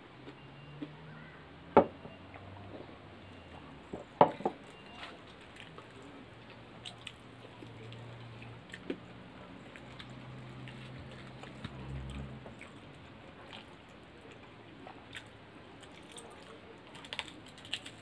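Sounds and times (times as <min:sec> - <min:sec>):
faint low hum: 0:00.0 - 0:18.0
quiet chewing and wet eating sounds: 0:00.0 - 0:18.0.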